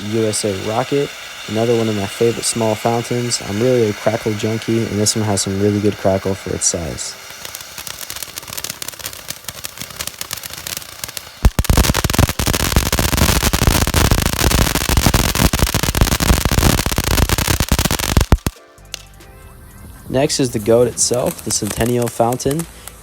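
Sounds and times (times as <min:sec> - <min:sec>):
crackling fountain firework: 0:00.0 - 0:19.2, 0:19.9 - 0:23.0.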